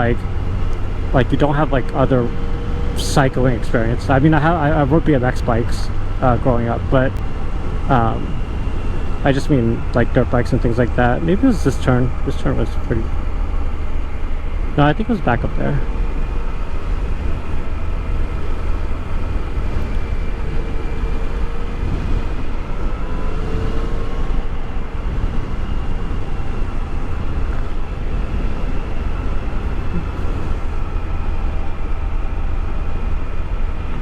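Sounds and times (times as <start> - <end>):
motorcycle engine cruising: 0.0 - 34.0
wind rumble on microphone: 0.0 - 34.0.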